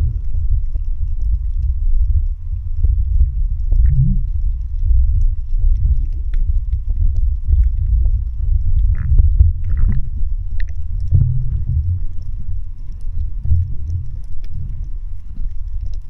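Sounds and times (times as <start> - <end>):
faint clicks: 0.0 - 16.0
muffled underwater water rumble: 0.0 - 16.0.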